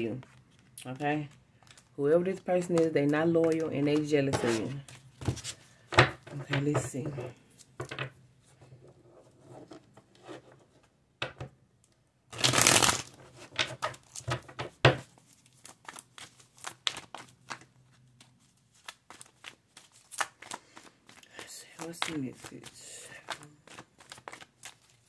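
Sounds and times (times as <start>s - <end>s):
cards being shuffled: 0.0s - 8.0s, 12.4s - 25.0s.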